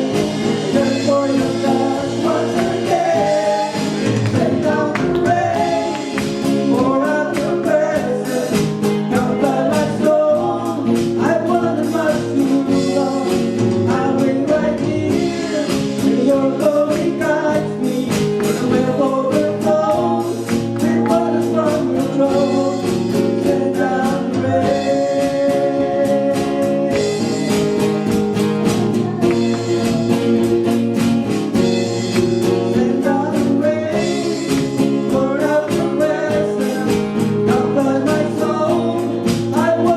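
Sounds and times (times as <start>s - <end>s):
person singing gospel song: 0.0s - 30.9s, 31.5s - 39.9s
guitar accompaniment: 0.0s - 39.9s.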